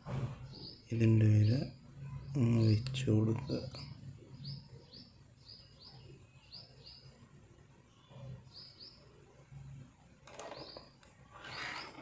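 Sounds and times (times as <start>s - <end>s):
bird chirping: 0.1s - 12.0s.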